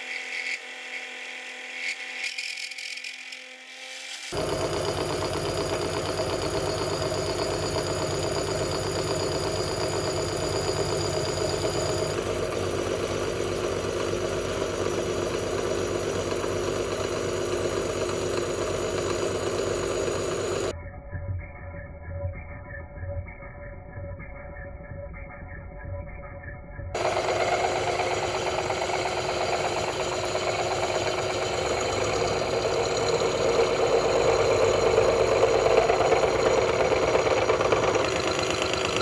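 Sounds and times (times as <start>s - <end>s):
milling machine cutting steel: 0.0s - 20.7s, 27.0s - 39.0s.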